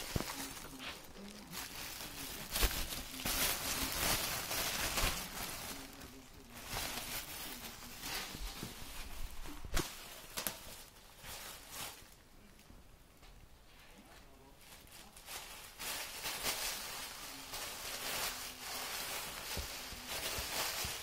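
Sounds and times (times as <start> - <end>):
plastic bag rustling: 0.0 - 12.2, 14.6 - 21.0.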